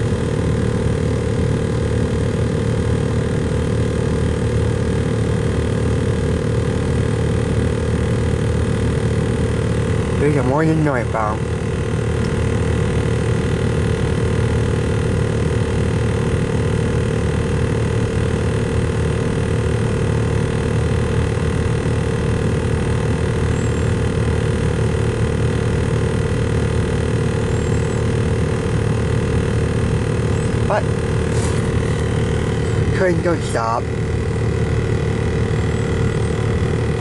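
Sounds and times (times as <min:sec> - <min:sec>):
constant hum: 0:00.0 - 0:37.0.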